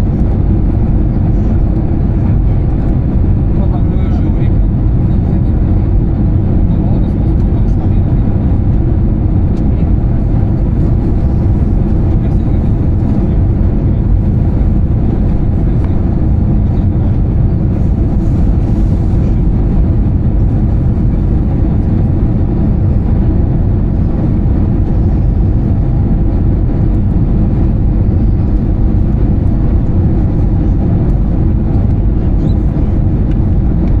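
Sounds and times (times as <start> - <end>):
airflow over fuselage: 0.0 - 34.0
jet engine rumble in cabin: 0.0 - 34.0.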